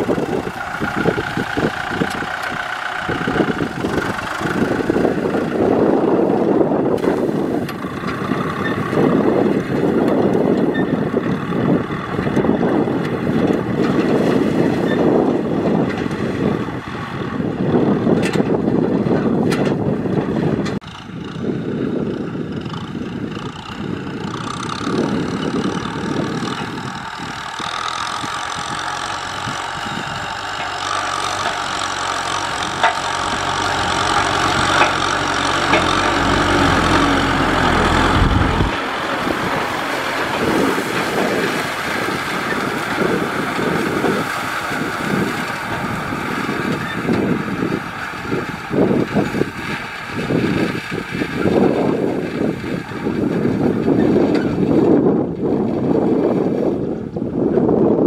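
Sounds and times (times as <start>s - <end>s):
tractor diesel engine under load: 0.0s - 58.0s
uneven fluttering rumble: 0.0s - 58.0s.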